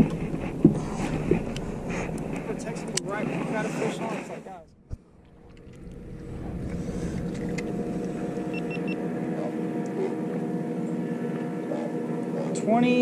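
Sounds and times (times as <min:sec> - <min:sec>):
motor humming steadily: 0:00.0 - 0:13.0.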